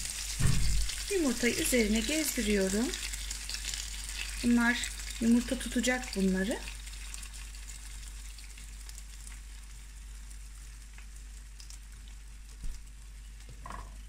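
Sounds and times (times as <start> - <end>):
food sizzling in frying pan: 0.0 - 14.0.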